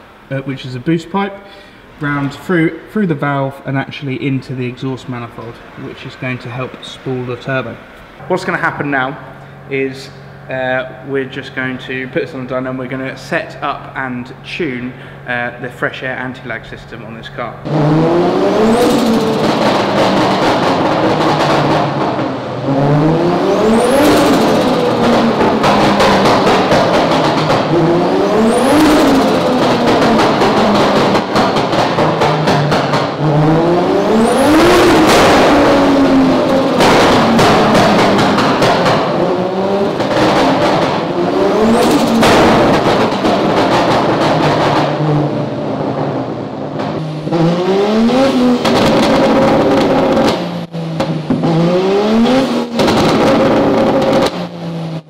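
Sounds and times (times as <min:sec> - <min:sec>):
sharp exhaust cracks: 0:00.0 - 0:55.0
engine revving: 0:08.4 - 0:55.0.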